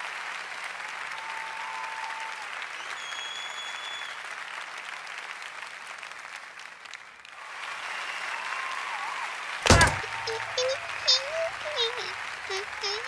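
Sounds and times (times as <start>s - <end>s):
crowd applause: 0.0s - 13.0s.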